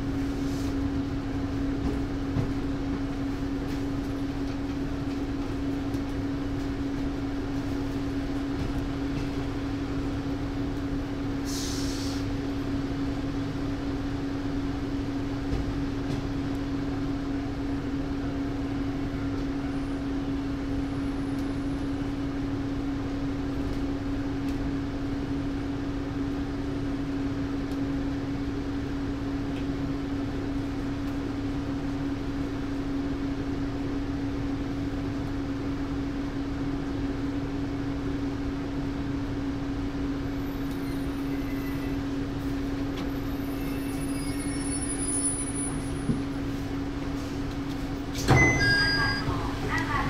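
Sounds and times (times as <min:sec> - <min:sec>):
train engine hum: 0:00.0 - 0:50.0
train rumbling on rails: 0:00.0 - 0:50.0.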